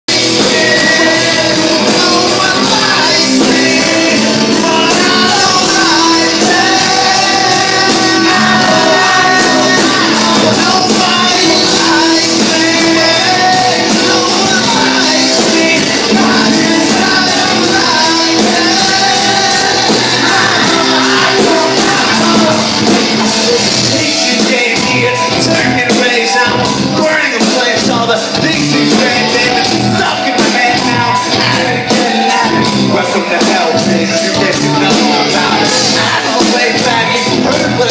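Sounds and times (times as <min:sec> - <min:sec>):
live rock band playing: 0:00.1 - 0:37.9
man singing and shouting: 0:00.1 - 0:37.9.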